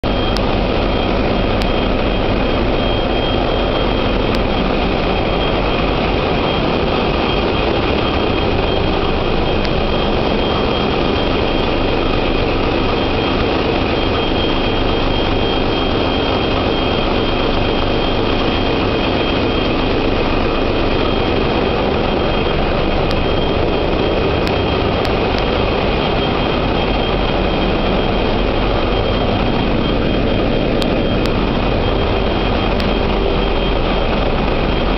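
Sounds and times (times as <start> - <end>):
diesel engines running: 0.0 - 34.9
high constant whine: 0.0 - 34.9.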